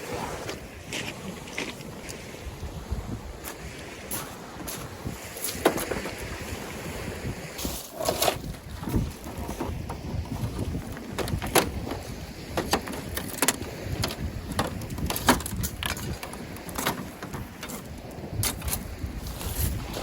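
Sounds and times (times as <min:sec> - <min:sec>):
surf: 0:00.0 - 0:20.0
wind: 0:00.0 - 0:20.0.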